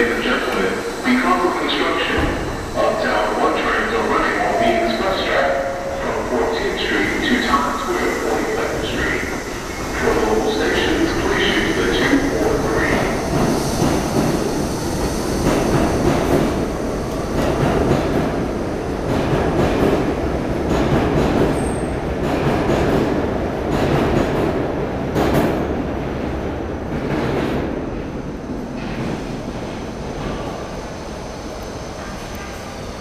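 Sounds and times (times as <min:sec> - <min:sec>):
subway train running on track: 0:00.0 - 0:33.0.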